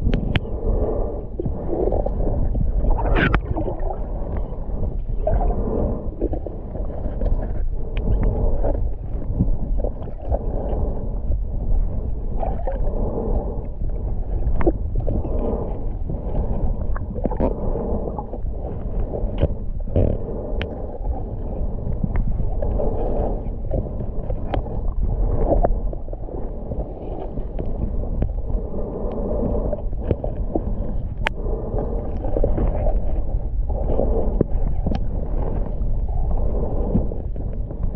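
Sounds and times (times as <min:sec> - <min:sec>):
muffled underwater rumble: 0:00.0 - 0:37.9.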